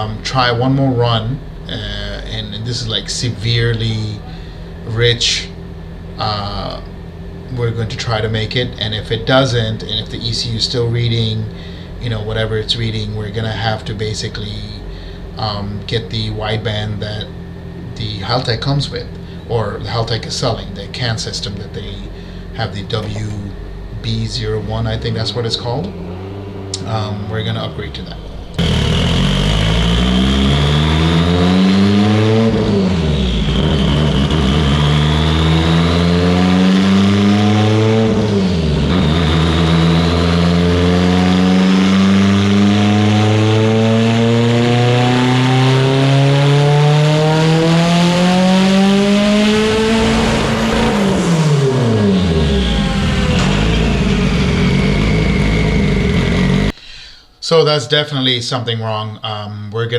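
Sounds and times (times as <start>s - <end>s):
turbocharged engine revving: 0.0s - 56.8s
high whine: 0.0s - 58.4s.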